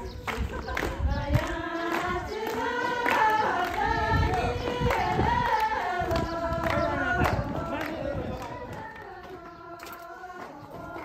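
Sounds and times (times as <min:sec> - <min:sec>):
group singing folk song: 0:00.0 - 0:11.0.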